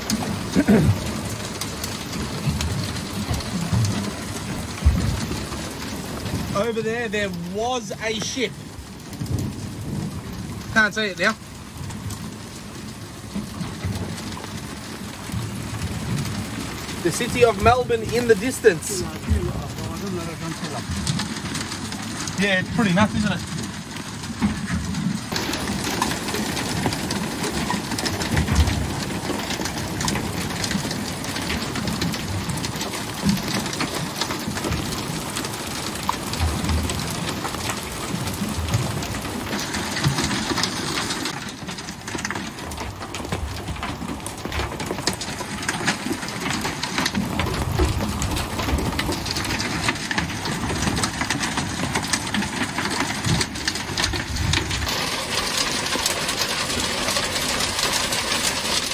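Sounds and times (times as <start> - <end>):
hail and rain on metal deck: 0.0 - 58.9.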